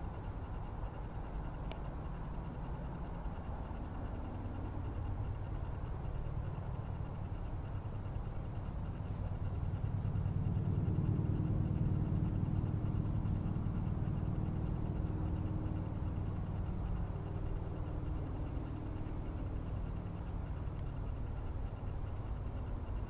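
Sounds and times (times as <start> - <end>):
steady low rumble by river: 0.0 - 23.0.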